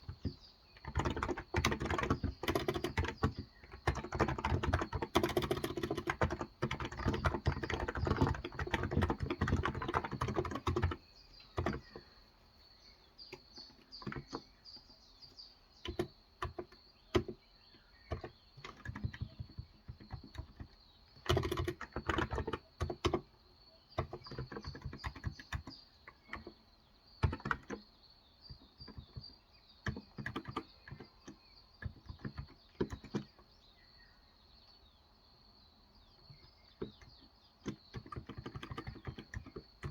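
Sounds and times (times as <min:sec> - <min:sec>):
keyboard typing: 0:00.0 - 0:12.1, 0:13.3 - 0:14.6, 0:15.8 - 0:26.6, 0:27.2 - 0:27.8, 0:28.5 - 0:33.5, 0:36.3 - 0:39.9
faint birds chirping: 0:00.0 - 0:39.9.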